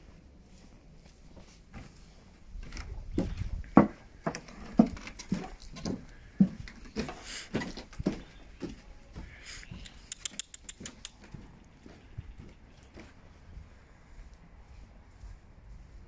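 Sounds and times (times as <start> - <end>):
footsteps on wooden boardwalk: 0.0 - 10.1, 10.7 - 16.0.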